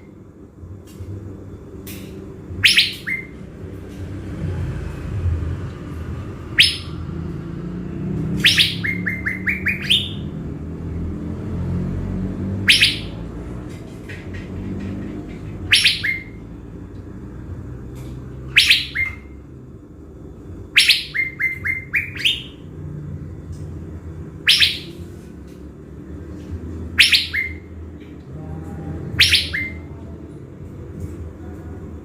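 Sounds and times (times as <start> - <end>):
steady low hum: 0.0 - 32.0
caged bird calling: 1.5 - 4.5, 6.0 - 31.7.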